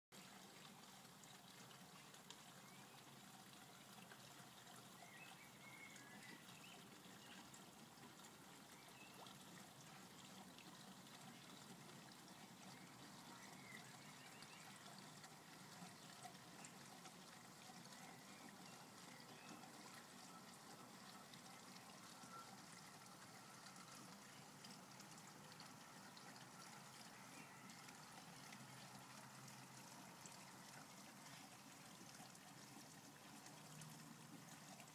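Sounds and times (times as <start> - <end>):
water trickling in pond: 0.1 - 34.9.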